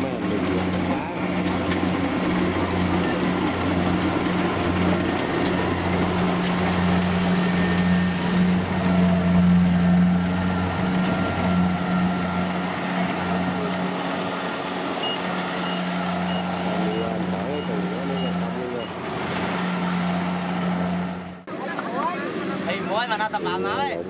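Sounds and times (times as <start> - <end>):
combine harvester diesel engine: 0.0 - 24.0.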